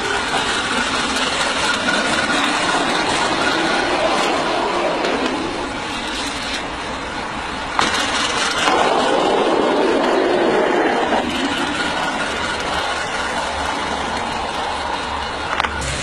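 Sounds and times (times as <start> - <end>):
steam hissing: 0.0 - 16.0.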